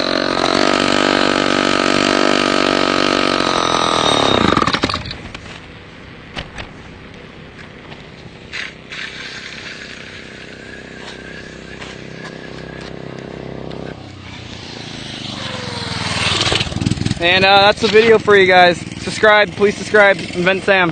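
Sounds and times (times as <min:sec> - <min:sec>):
chainsaw engine revving: 0:00.0 - 0:05.2, 0:08.5 - 0:20.9.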